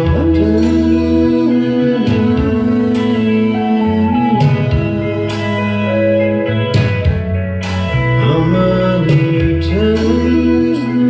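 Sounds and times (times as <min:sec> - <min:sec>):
guitar music with singing: 0:00.0 - 0:11.0.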